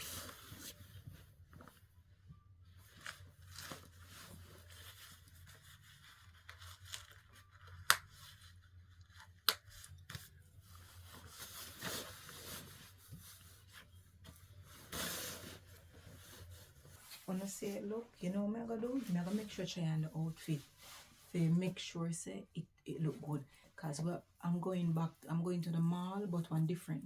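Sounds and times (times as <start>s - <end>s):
clothes rustling: 0.0s - 22.1s.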